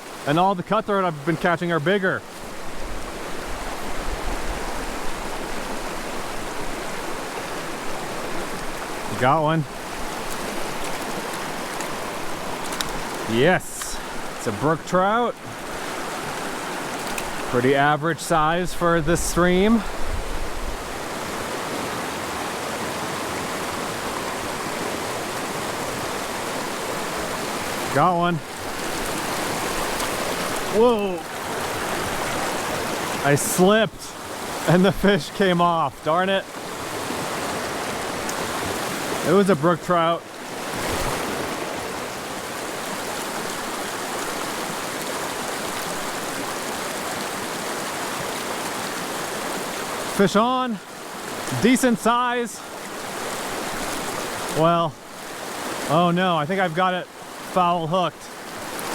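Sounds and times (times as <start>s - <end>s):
river rushing over rocks: 0.0s - 58.9s.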